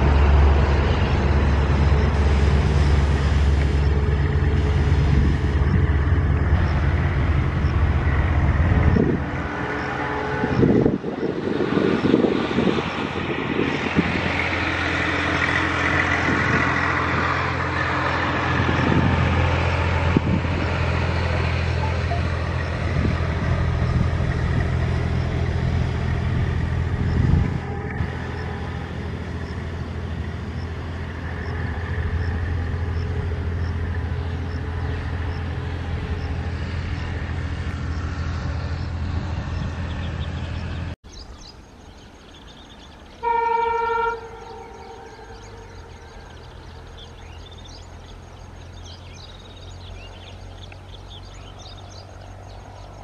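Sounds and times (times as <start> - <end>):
diesel locomotive engine humming: 0.0 - 53.0.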